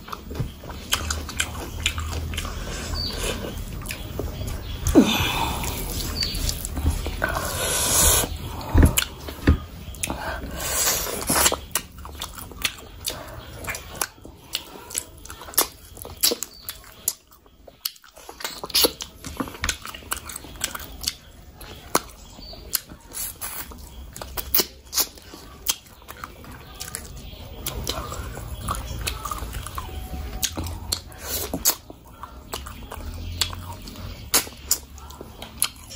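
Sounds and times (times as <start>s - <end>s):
wet chewing and lip smacks: 0.0s - 7.4s, 11.0s - 35.9s.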